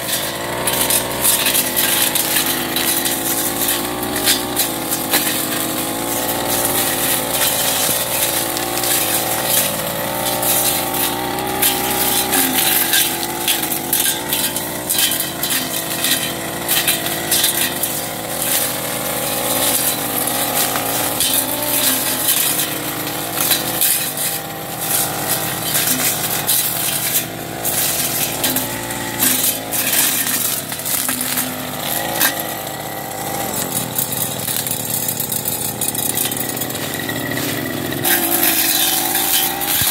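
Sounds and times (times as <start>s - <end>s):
brush cutter engine running: 0.0s - 39.9s
cutting head snapping stems: 0.1s - 35.0s.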